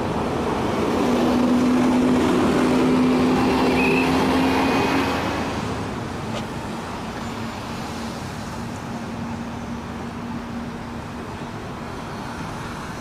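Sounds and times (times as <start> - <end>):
engine hum: 0.0 - 13.0
road noise rumble: 0.0 - 13.0
vehicles passing: 0.0 - 13.0.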